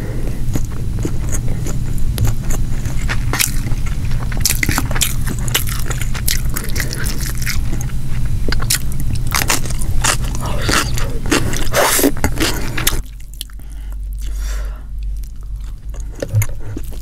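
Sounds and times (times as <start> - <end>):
steady low hum: 0.0 - 17.0
crisp crunching of cucumber: 0.5 - 14.3.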